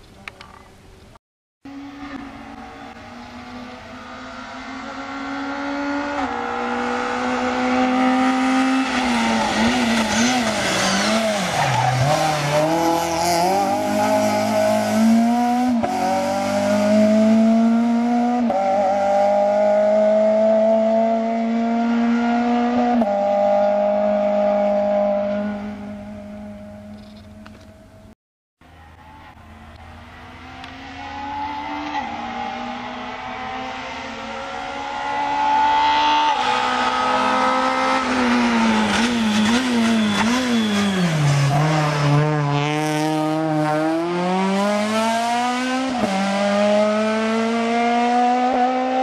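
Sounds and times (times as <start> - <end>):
rally car engine accelerating: 1.7 - 27.0, 29.8 - 49.0.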